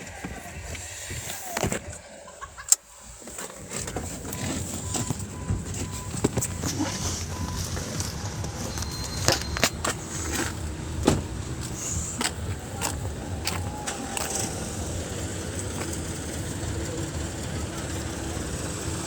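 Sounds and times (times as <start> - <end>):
vehicle engine running: 3.6 - 19.0.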